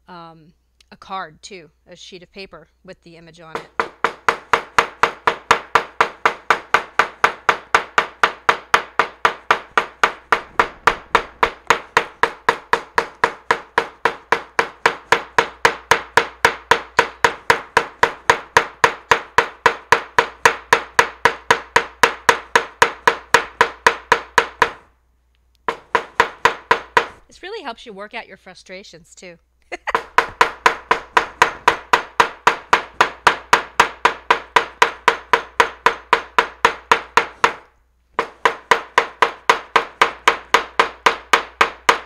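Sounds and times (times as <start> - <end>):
hammer pounding on paper: 3.5 - 24.9, 25.7 - 27.2, 29.9 - 42.0.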